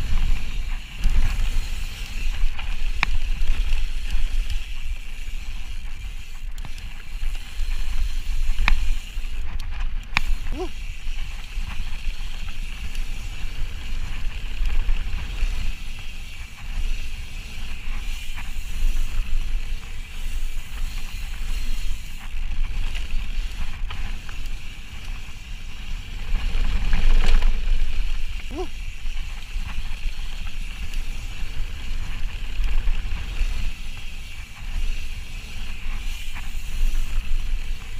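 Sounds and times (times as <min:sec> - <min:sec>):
bike clicks and rattles: 0:00.0 - 0:37.9.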